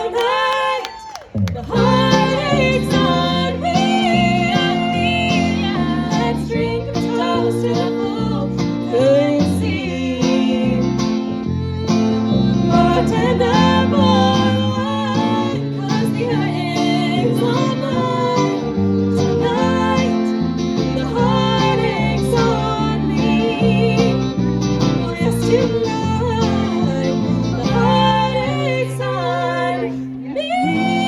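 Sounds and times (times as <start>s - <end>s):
guitar: 1.2s - 31.0s
country band playing: 1.4s - 31.0s.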